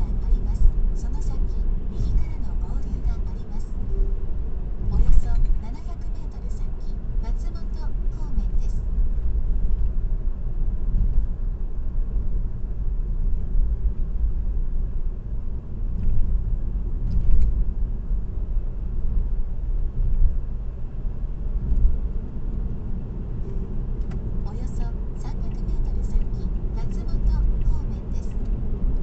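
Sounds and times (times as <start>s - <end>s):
car road rumble and tyre hum: 0.0s - 29.0s.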